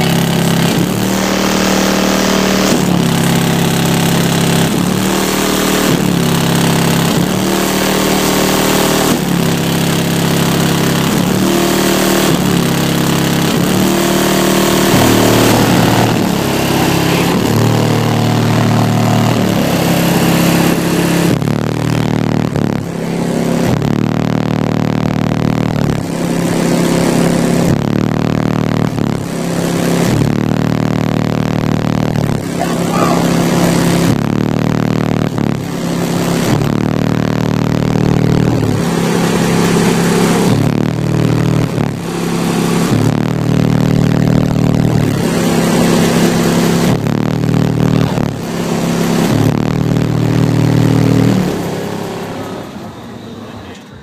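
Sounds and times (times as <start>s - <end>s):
bass-heavy music from subwoofer: 0.0s - 52.9s
distorted buzz: 0.0s - 54.0s.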